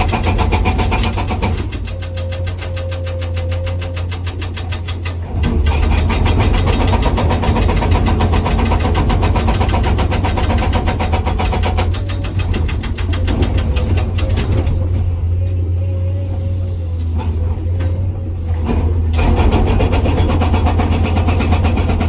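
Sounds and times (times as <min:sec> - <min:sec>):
diesel engine humming: 0:00.0 - 0:22.0
hydraulic breaker hammering rock: 0:00.0 - 0:22.0.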